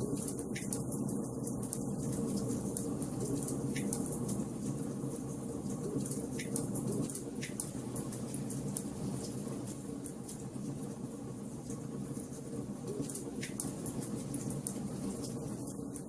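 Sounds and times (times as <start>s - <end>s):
fire rumbling and crackling: 0.0s - 16.0s.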